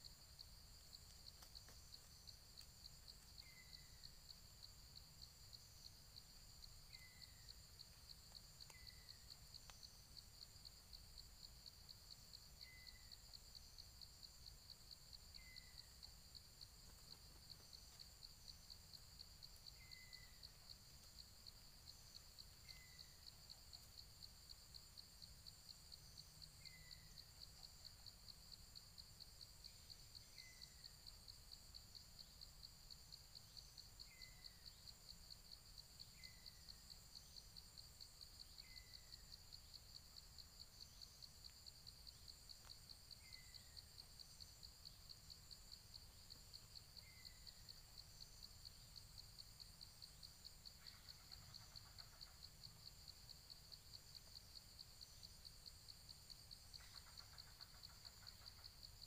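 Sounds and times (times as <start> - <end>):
insect trill: 0.0 - 59.0.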